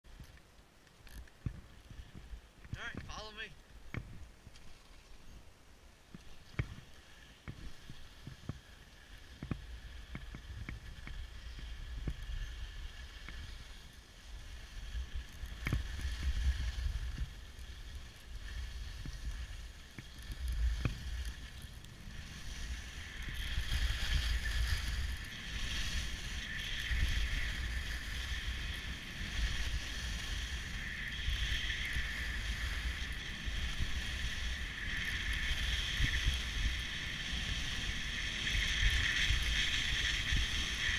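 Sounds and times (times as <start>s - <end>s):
skis scraping over snow: 0.1s - 40.9s.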